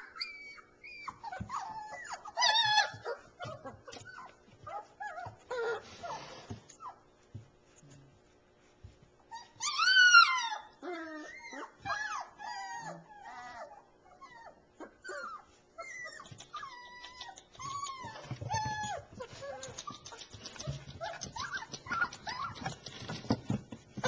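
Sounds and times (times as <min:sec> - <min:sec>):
puppies whimpering and whining: 0:00.0 - 0:07.2, 0:09.0 - 0:24.0.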